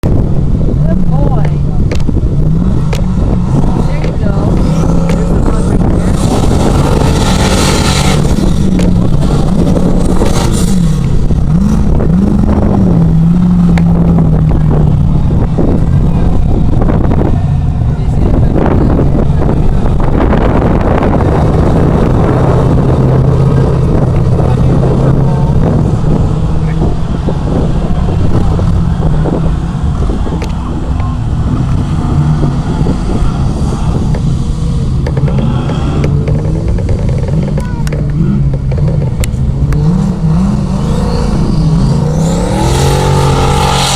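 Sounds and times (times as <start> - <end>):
truck engine revving: 0.0 - 43.9
wind buffeting microphone: 0.0 - 43.9.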